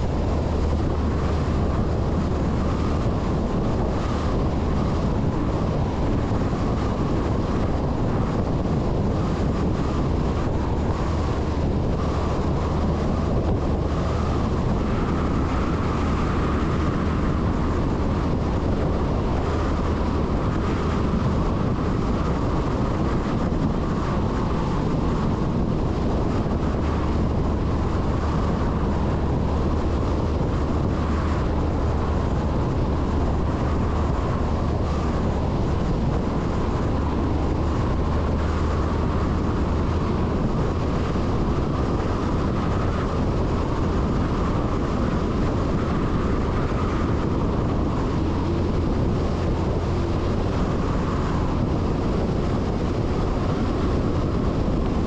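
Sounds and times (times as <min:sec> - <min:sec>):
diesel engine drone: 0:00.0 - 0:55.0
wind and road noise: 0:00.0 - 0:55.0.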